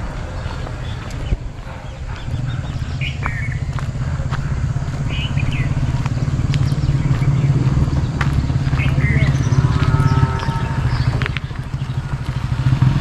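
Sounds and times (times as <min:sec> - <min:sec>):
bird chirps: 0:00.0 - 0:12.5
motorcycle engine rumble: 0:00.0 - 0:13.0.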